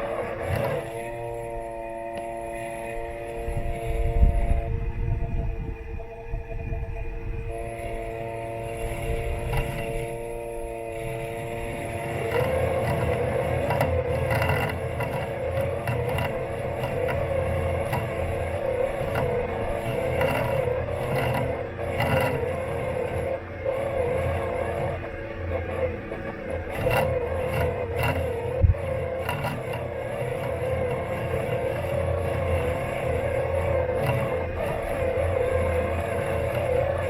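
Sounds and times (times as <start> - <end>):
robot lawn mower motor hum: 0.0 - 37.0.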